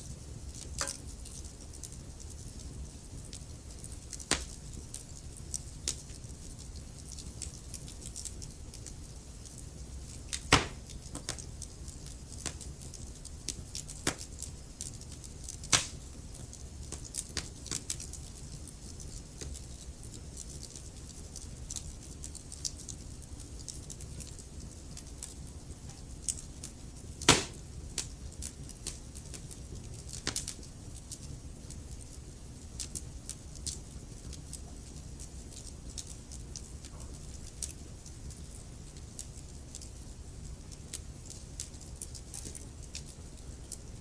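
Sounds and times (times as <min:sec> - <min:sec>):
low rumble of fire: 0:00.0 - 0:44.0
burning logs popping: 0:00.4 - 0:44.0.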